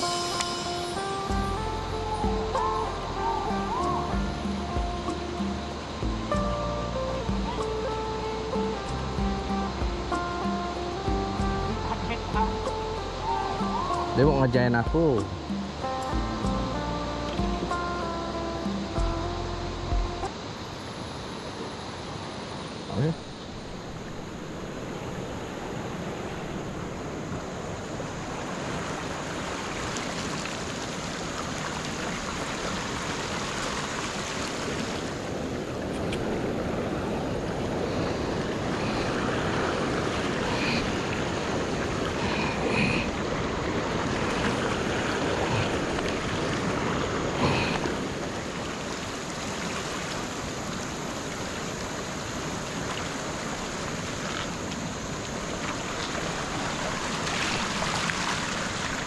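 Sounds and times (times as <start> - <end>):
fast river current rushing: 0.0 - 59.0.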